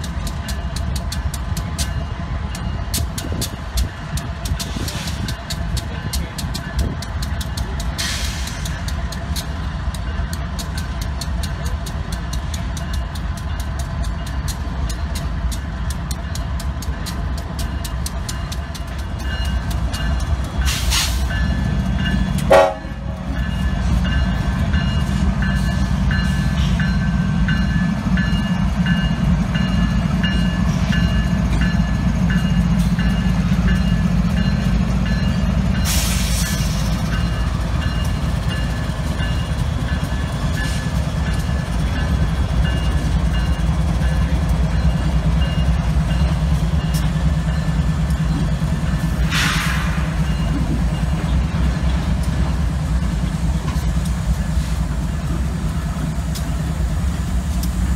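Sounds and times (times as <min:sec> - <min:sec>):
diesel locomotive engines rumbling: 0:00.0 - 0:57.9.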